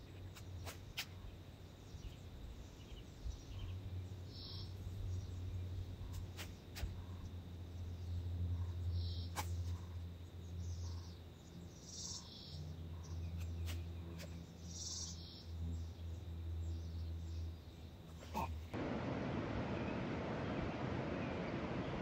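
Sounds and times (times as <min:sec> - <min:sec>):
bird chirping: 0:00.0 - 0:18.5
steady low hum: 0:00.0 - 0:22.0.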